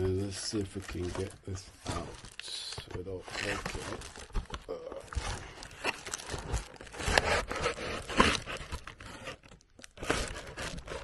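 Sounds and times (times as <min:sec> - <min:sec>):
plastic packaging crinkling: 0:00.1 - 0:11.0.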